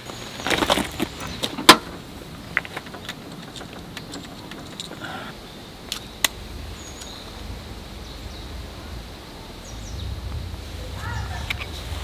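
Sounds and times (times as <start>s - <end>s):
low rustling: 0.0s - 12.0s.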